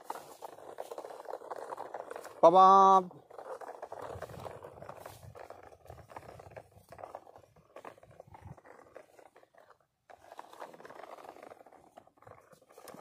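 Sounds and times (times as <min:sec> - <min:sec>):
toy truck wheels scraping dirt: 0:00.0 - 0:13.0.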